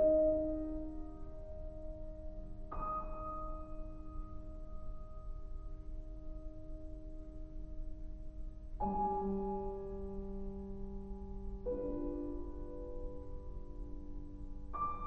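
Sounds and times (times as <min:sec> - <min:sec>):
low steady hum: 0:00.0 - 0:15.0
soft piano chord ringing: 0:00.0 - 0:15.0.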